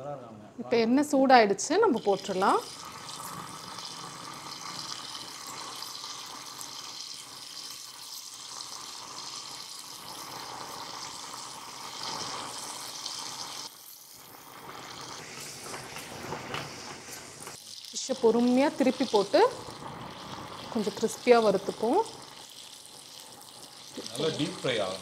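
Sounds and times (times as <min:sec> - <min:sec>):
fish sizzling in hot oil: 0:01.7 - 0:25.0.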